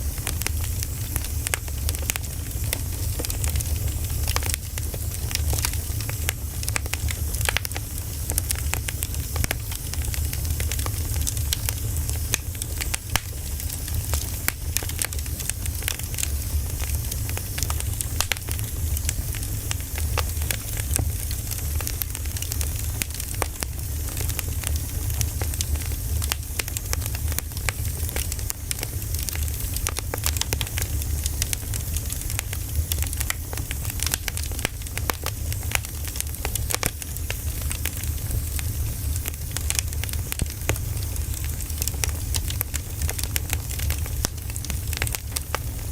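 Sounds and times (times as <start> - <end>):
firewood crackling and popping: 0.0 - 45.9.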